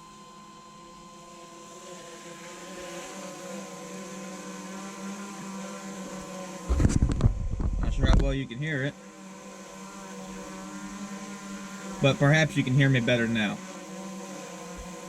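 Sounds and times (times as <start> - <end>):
drone propellers humming: 0.8 - 15.0.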